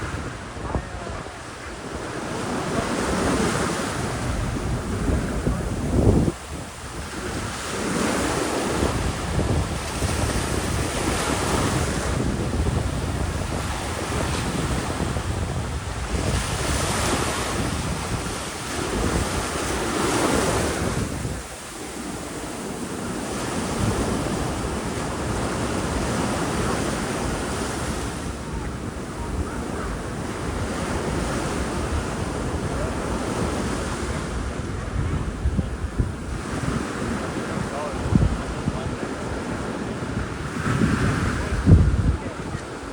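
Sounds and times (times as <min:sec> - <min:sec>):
ocean surf breaking on beach: 0:00.0 - 0:42.9
wind buffeting microphone: 0:00.0 - 0:42.9.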